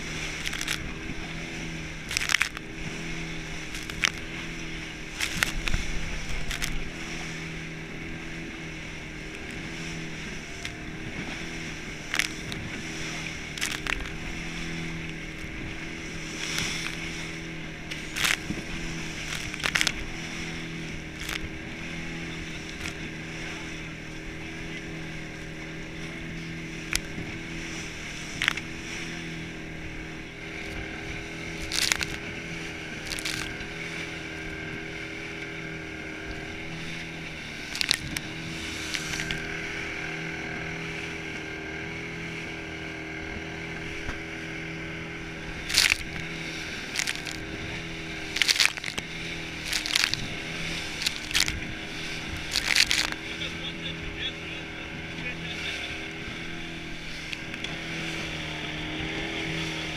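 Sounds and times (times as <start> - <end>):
boat motor running: 0.0 - 59.9
hull slapping water: 0.0 - 59.9
rushing water: 0.0 - 59.9
wind: 0.0 - 59.9.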